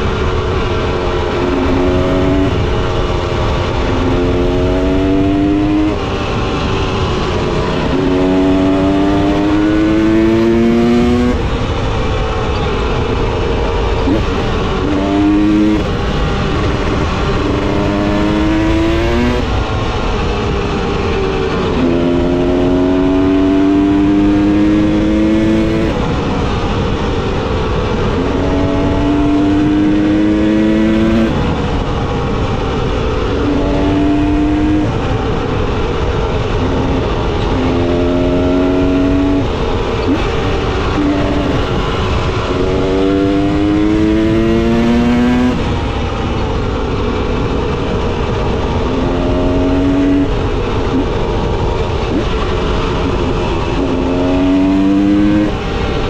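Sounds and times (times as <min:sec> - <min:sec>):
constant rushing noise: 0:00.0 - 0:56.0
motorcycle engine revving: 0:00.0 - 0:56.0.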